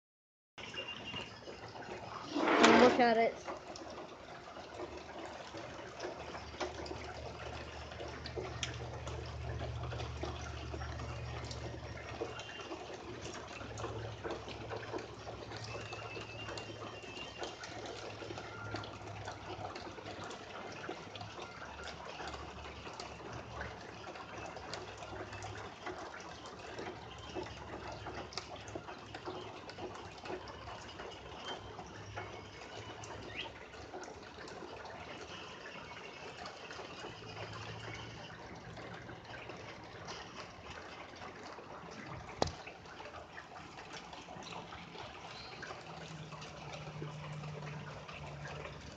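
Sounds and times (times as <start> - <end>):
water trickling: 0.6 - 48.9.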